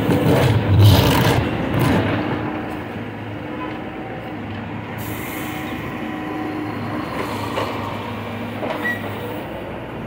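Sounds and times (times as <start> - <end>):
diesel engine under load: 0.0 - 10.0.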